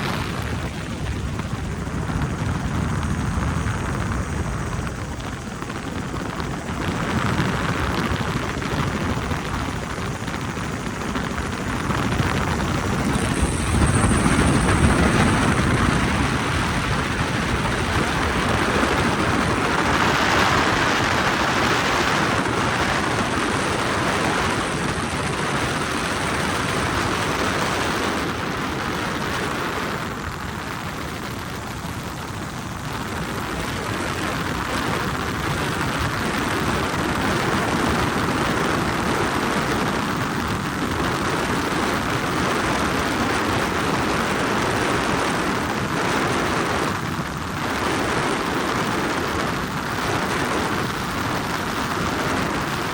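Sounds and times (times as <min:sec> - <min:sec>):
helicopter engine and rotor noise: 0:00.0 - 0:52.9.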